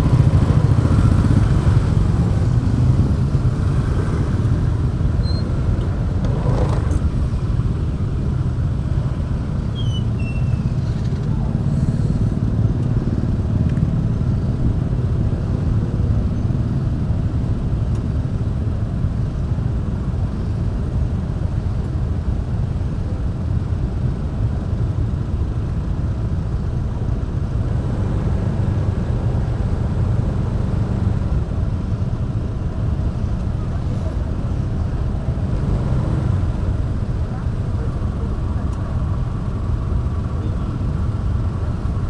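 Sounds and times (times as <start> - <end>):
motorbike engine rumble: 0.0 - 42.0.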